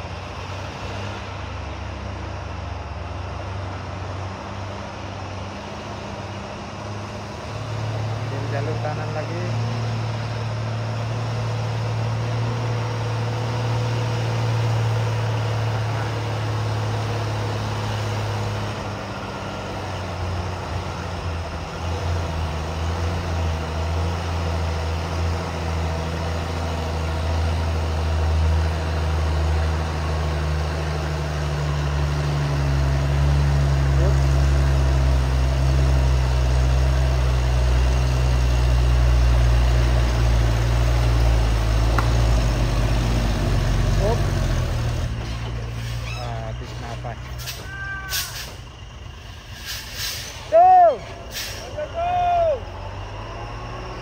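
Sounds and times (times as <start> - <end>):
diesel truck engine labouring uphill: 0.0 - 54.0.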